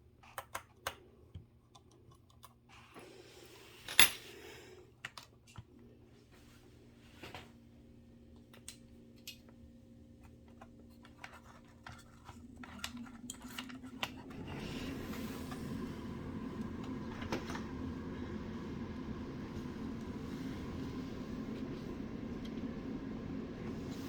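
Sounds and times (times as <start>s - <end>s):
low whirring hum: 0.0s - 24.0s.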